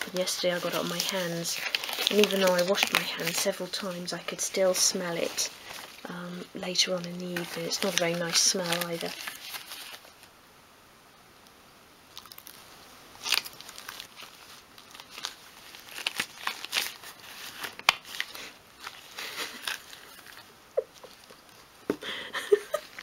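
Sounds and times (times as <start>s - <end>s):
gloved hands rustling: 0.0s - 10.3s, 12.2s - 23.0s.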